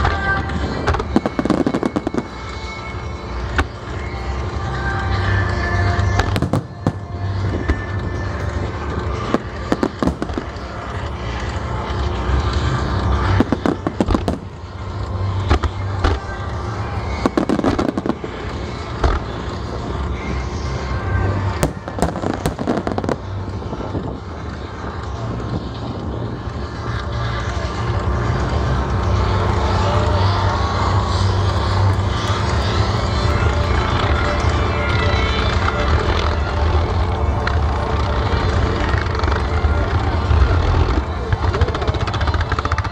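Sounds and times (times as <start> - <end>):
fireworks crackle and rumble: 0.0 - 42.9.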